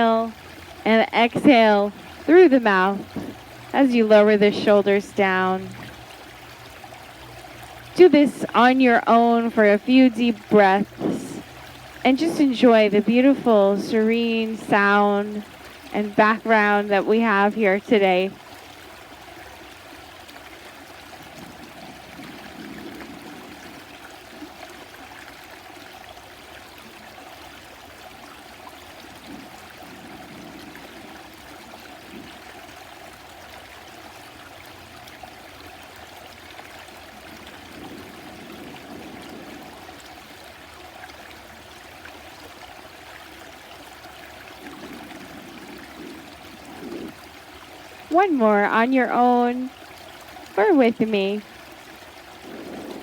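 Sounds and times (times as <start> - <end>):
stream rushing and trickling: 0.0 - 53.0.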